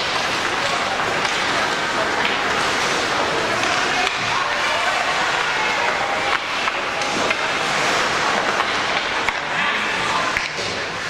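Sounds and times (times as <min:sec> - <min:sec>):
hubbub of spectators and players: 0:00.0 - 0:11.0.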